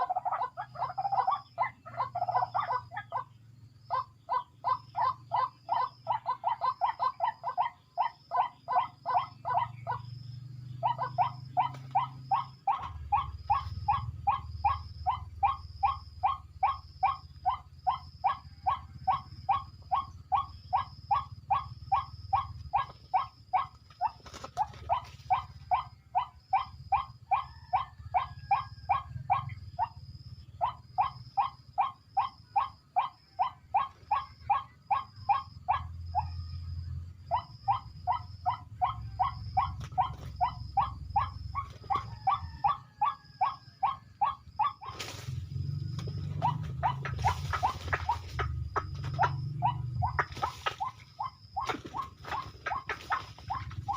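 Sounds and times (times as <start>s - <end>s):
bird harsh croaking calls: 0.0s - 53.9s.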